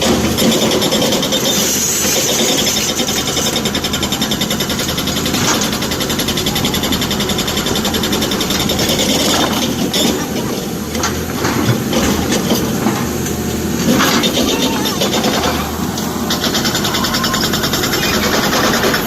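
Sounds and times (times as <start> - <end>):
diesel engine clattering: 0.0 - 19.0.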